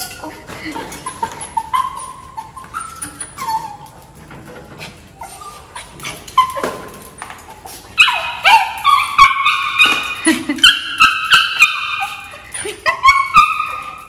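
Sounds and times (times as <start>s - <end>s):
dog whining: 0.0s - 4.2s, 5.1s - 14.0s.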